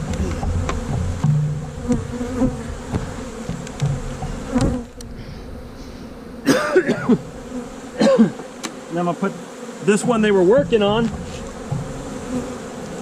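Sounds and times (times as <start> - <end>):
bees buzzing: 0.0 - 13.0
wooden hive boxes knocking: 0.0 - 13.0.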